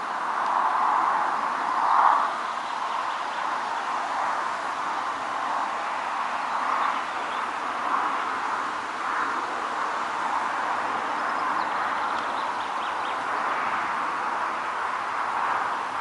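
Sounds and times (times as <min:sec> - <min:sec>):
continuous rushing noise: 0:00.0 - 0:16.0.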